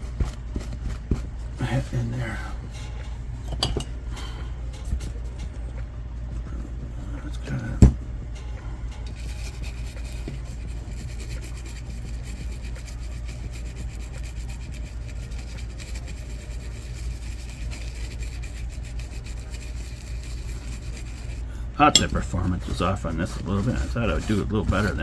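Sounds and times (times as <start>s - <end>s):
hands rubbing and scratching: 0.0s - 5.5s, 8.9s - 25.0s
low hum: 0.0s - 25.0s.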